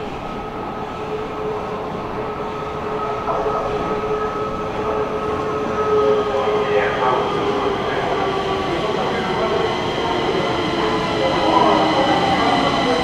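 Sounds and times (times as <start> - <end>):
metro train running: 0.0 - 13.0.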